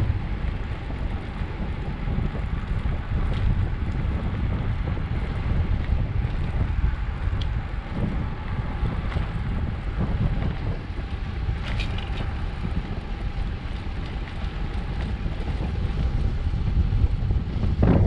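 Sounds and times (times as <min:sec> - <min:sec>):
bike rolling on asphalt: 0:00.0 - 0:18.0
light bike clicks: 0:00.0 - 0:18.0
wind rushing over microphone: 0:00.0 - 0:18.0.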